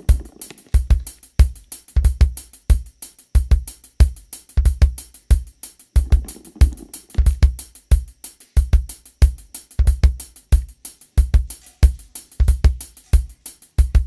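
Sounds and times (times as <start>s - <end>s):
background music with drum beat: 0.0s - 14.0s.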